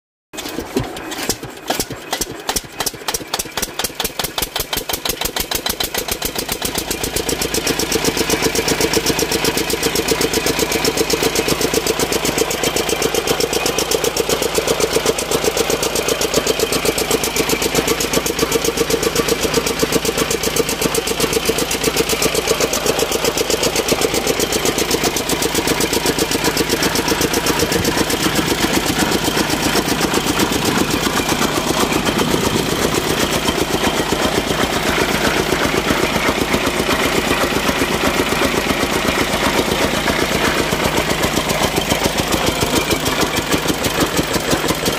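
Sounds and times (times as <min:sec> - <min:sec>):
single-cylinder diesel engine running: 0:00.3 - 0:44.9.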